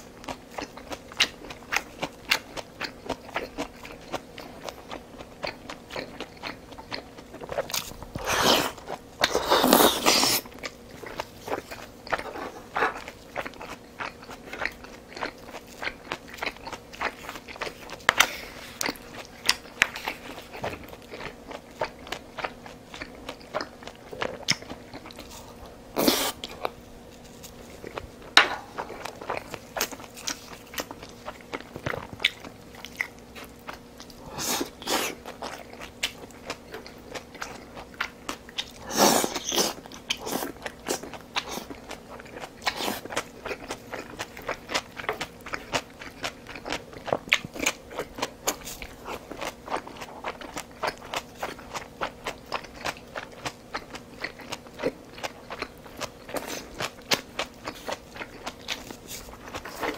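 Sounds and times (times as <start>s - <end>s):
chewing and biting food: 0.0s - 59.9s.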